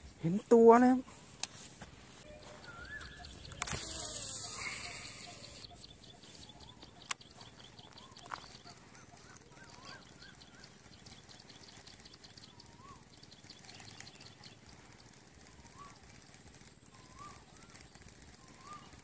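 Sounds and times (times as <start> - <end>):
bird chirping: 2.2 - 19.0.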